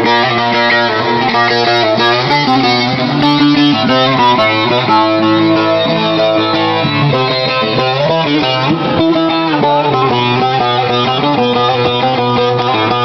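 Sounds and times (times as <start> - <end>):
amplified long-necked lute melody: 0.0 - 13.0.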